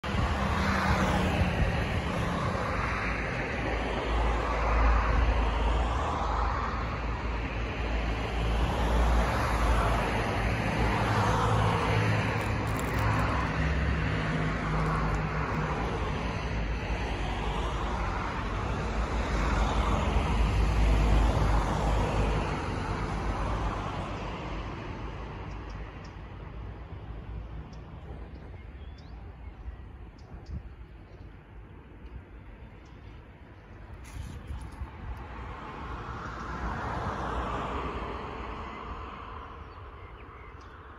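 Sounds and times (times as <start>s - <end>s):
cars passing: 0.0s - 30.2s, 30.8s - 40.9s
low traffic rumble: 0.0s - 40.9s.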